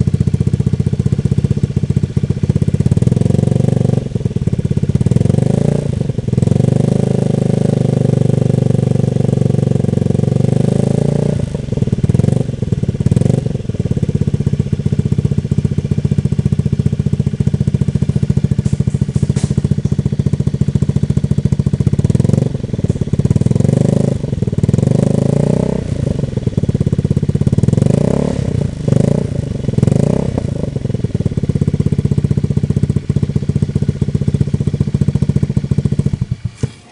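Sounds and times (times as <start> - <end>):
scooter engine revving: 0.0 - 36.9.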